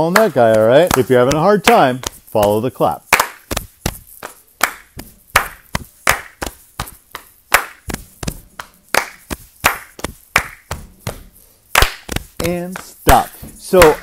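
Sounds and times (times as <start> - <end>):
hand claps and body slaps: 0.0 - 14.0.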